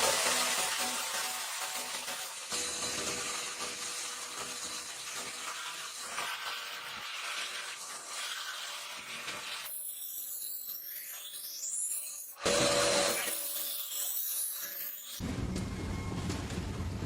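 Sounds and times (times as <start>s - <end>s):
power tool grinding steel: 0.0s - 15.2s.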